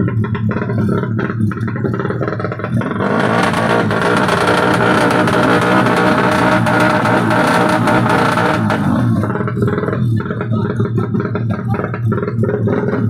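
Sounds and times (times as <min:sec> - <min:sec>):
motorcycle engine revving loud: 0:00.0 - 0:13.0.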